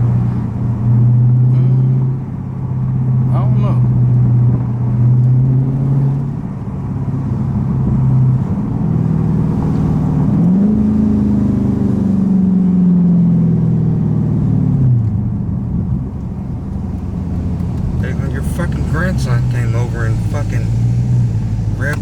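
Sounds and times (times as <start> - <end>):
car engine with loud exhaust: 0.0 - 22.0.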